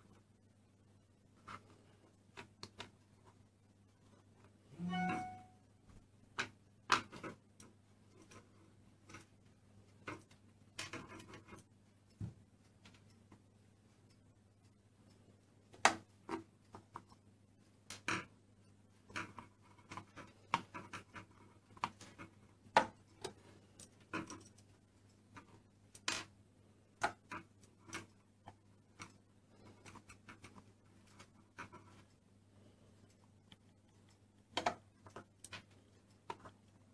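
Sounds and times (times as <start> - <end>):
faint low hum: 0.0 - 36.9.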